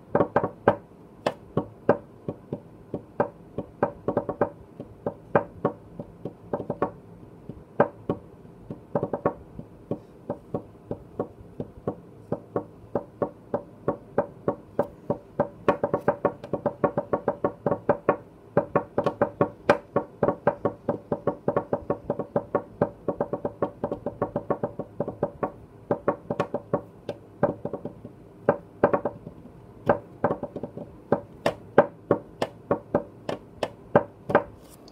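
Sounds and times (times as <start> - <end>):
fingertips drumming on a desk: 0.0 - 34.6.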